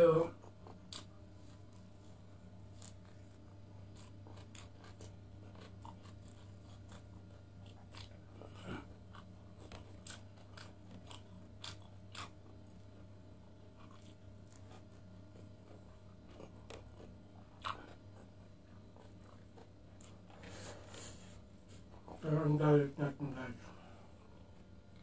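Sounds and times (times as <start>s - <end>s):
low electrical hum: 0.0s - 25.0s
person chewing and biting: 0.4s - 13.1s, 13.7s - 22.1s.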